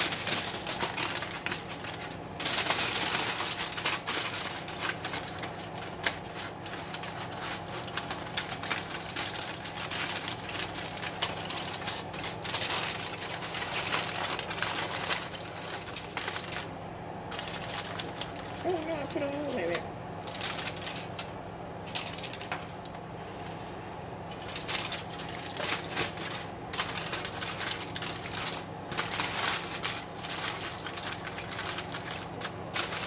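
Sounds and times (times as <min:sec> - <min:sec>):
aluminum foil crinkling: 0:00.0 - 0:23.3, 0:24.3 - 0:33.0.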